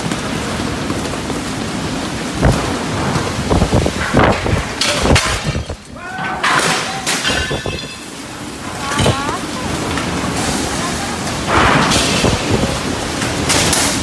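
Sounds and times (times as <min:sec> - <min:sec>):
wind buffeting microphone: 0:00.0 - 0:06.0, 0:07.3 - 0:14.0
heavy rain: 0:00.0 - 0:14.0
loud bangs and crashes: 0:02.4 - 0:14.0.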